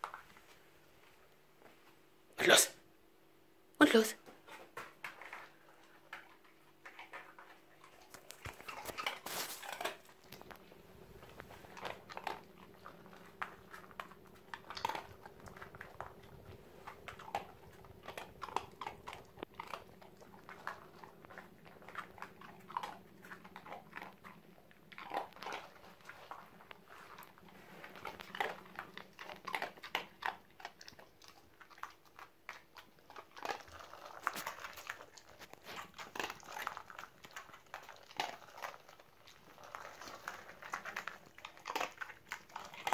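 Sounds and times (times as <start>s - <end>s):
dog crunching dry treats: 4.6s - 42.9s.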